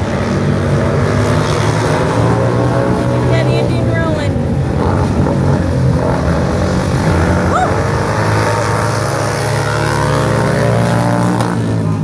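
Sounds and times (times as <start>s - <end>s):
motorcycles racing past: 0.0s - 12.0s.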